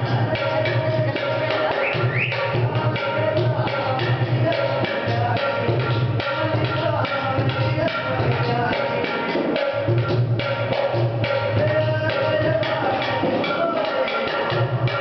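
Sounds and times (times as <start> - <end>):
hand drum beating fast rhythm: 0.0 - 15.0.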